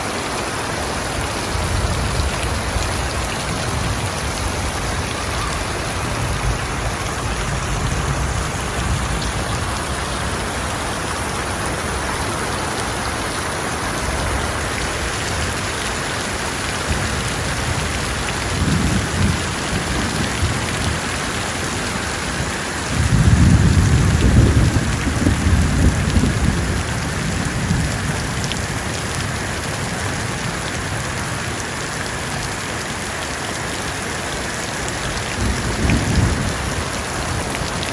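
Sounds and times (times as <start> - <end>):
rain hissing on surfaces: 0.0 - 37.9.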